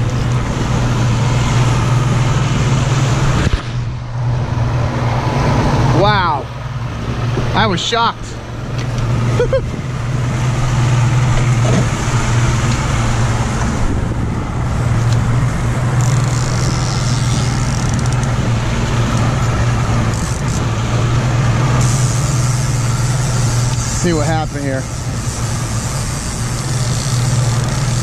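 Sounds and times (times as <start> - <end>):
boat wake rushing: 0.0 - 28.0
outboard motor droning: 0.0 - 28.0.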